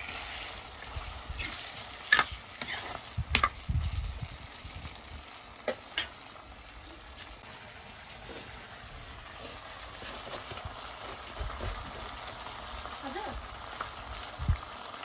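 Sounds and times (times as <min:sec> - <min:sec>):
fish sizzling in a wok: 0:00.0 - 0:15.0.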